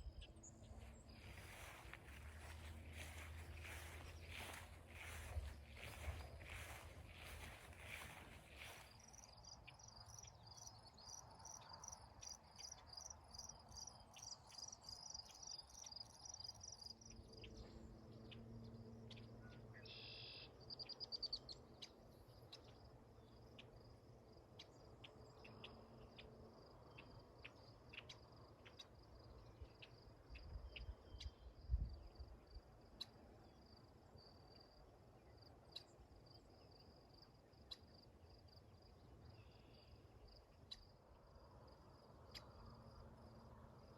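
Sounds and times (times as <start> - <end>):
crickets chirping: 0.8 - 17.5, 22.5 - 43.9.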